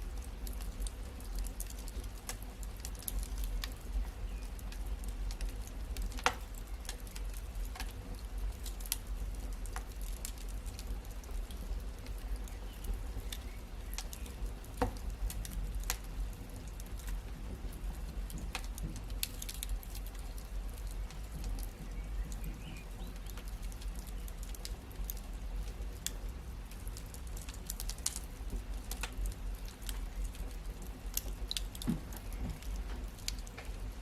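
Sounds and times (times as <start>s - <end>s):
wood fire crackling: 0.0s - 34.0s
sharp pops and snaps: 0.1s - 17.2s, 17.8s - 33.9s.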